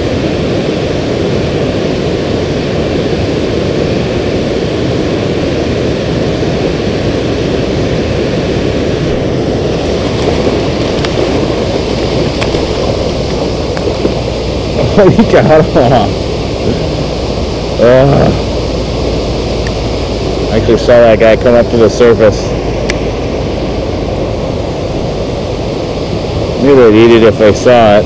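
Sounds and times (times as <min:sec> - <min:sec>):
water rushing through rapids: 0:00.0 - 0:28.0.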